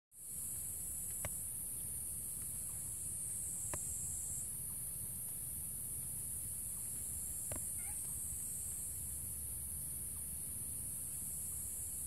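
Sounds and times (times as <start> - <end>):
high-pitched insect chorus: 0.2 - 12.0.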